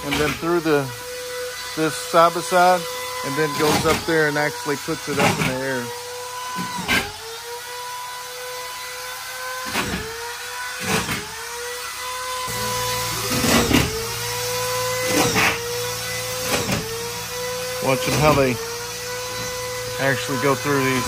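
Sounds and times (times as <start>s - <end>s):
power tool whining: 0.0s - 21.0s.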